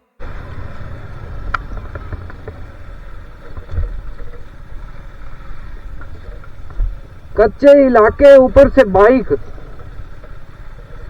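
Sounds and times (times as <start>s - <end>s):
motorcycle engine rumble: 0.0s - 11.0s
wind buffeting microphone: 0.2s - 11.0s.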